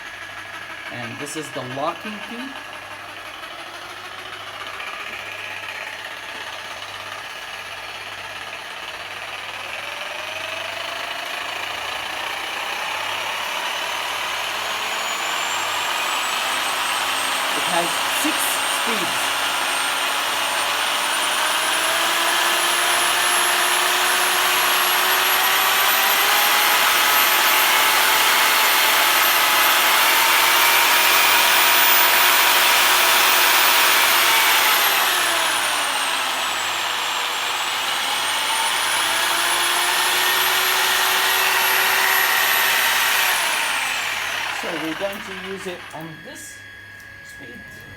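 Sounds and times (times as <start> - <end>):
jigsaw motor whining: 0.0 - 47.9.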